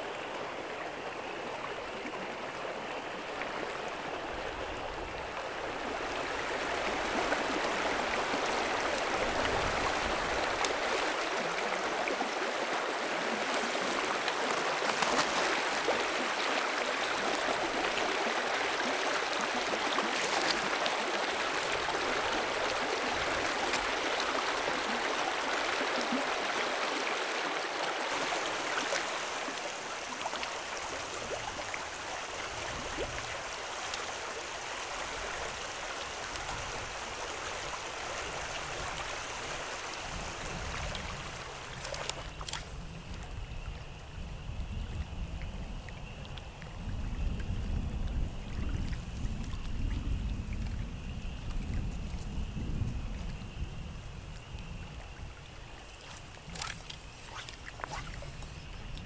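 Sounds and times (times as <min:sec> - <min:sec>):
creek water babbling: 0:00.0 - 0:59.0.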